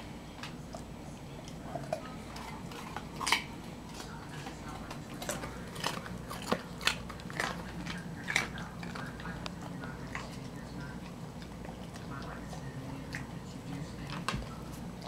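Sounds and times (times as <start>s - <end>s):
dog crunching carrot: 0.3s - 15.0s.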